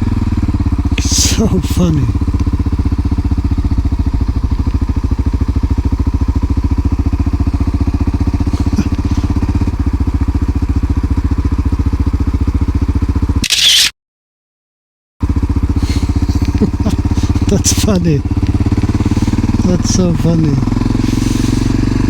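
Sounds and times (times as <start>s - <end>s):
motorcycle engine running at low revs: 0.0s - 13.4s, 15.2s - 22.0s.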